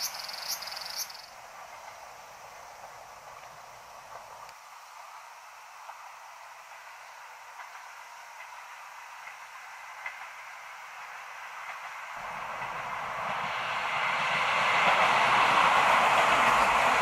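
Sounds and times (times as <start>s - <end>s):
faint outdoor hiss: 0.0s - 17.0s
train wheels on rails: 0.0s - 17.0s.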